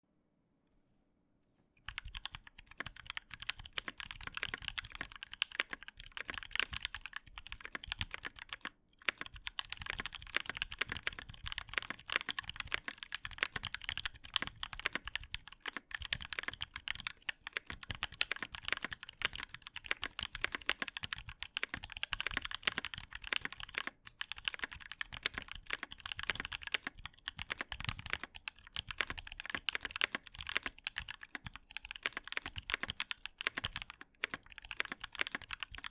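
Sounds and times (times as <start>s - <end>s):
mechanical keyboard clacks: 1.9s - 35.9s.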